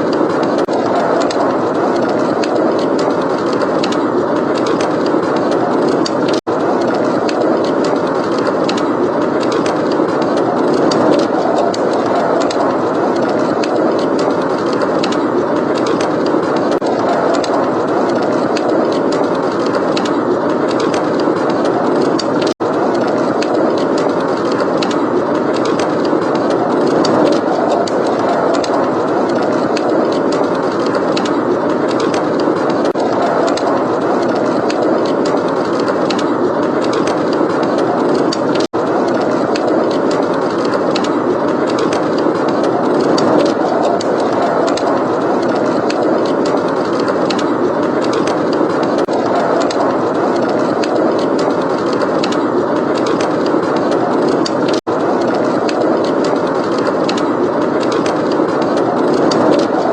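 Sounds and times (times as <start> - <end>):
blizzard wind: 0.0 - 59.9
wood fire crackling: 0.0 - 59.9.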